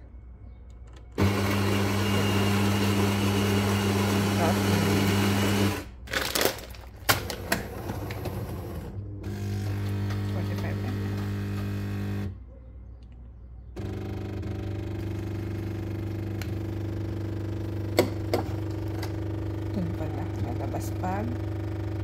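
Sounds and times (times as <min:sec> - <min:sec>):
coffee machine buzzing hum: 0:01.2 - 0:05.9, 0:07.2 - 0:12.4, 0:13.8 - 0:22.0.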